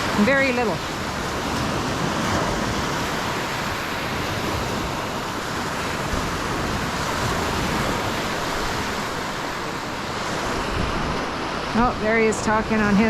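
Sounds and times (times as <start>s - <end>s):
waves breaking on shore: 0.0s - 13.0s.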